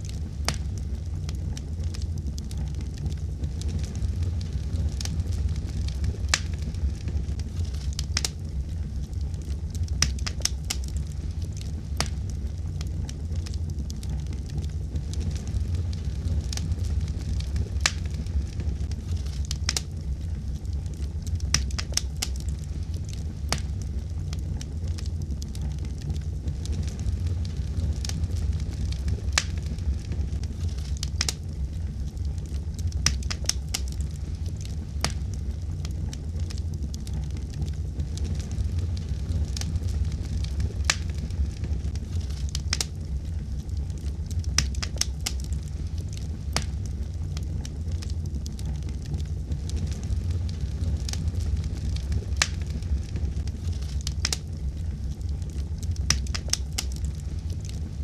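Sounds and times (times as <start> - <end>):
fire crackling and popping: 0.0 - 58.0
wood fire burning: 0.0 - 58.0.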